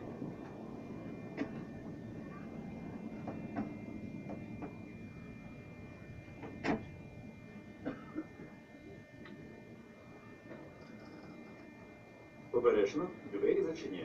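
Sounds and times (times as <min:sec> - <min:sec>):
low hum with high whine: 0:00.0 - 0:14.0.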